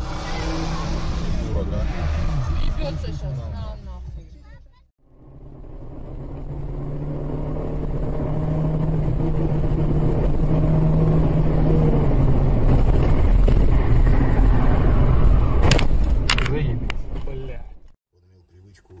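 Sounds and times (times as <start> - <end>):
car engine hum: 0.0 - 17.9
road noise rumble: 0.0 - 19.0.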